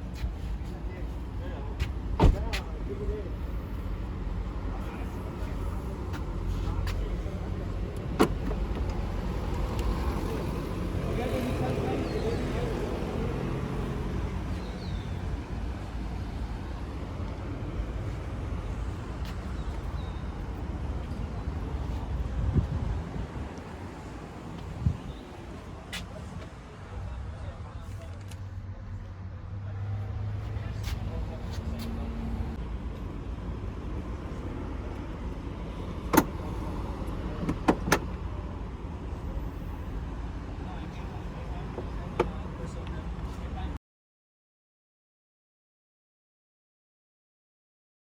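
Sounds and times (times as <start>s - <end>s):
car engine low rumble: 0.0s - 43.8s.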